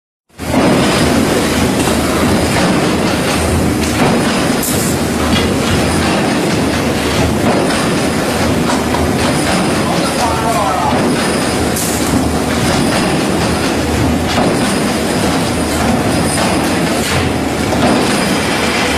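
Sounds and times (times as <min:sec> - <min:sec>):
wire mesh weaving machine running: 0:00.4 - 0:18.9.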